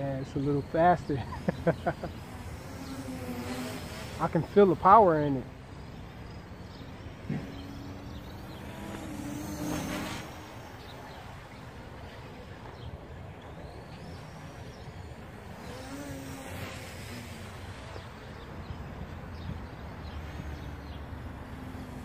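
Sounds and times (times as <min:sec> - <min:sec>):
distant drone motors humming: 0:00.0 - 0:22.0
outdoor background noise: 0:00.0 - 0:22.0.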